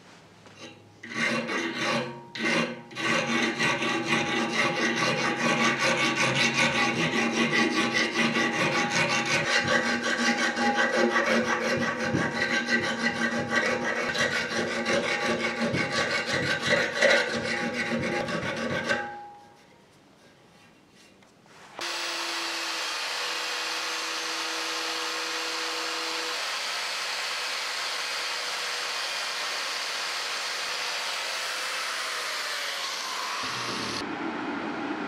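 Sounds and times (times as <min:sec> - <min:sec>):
file rasping on steel: 0:01.0 - 0:19.2, 0:21.8 - 0:34.0.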